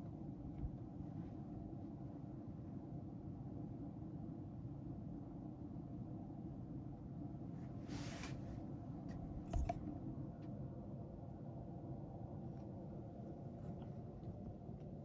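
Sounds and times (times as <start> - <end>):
fan heater humming: 0.0 - 15.0.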